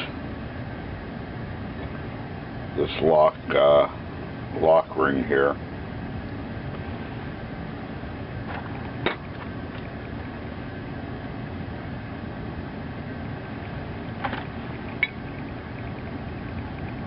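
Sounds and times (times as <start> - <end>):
fan running: 0.0 - 17.0.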